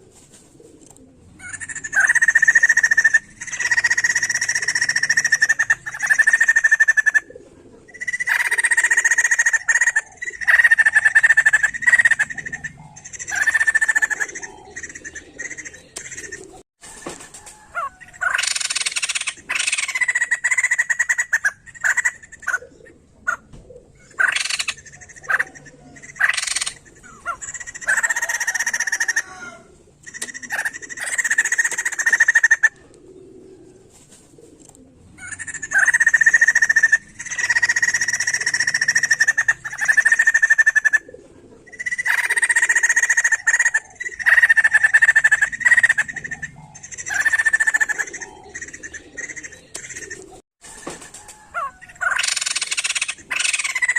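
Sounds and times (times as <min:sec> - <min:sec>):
laughingthrush calling: 0:01.4 - 0:16.6, 0:17.6 - 0:33.4, 0:35.2 - 0:50.4, 0:51.3 - 0:53.9.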